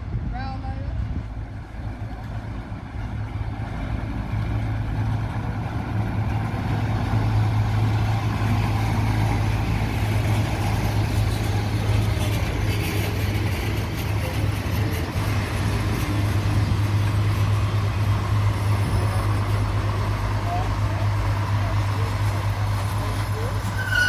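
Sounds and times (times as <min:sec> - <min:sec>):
electric train passing: 0:01.0 - 0:24.0.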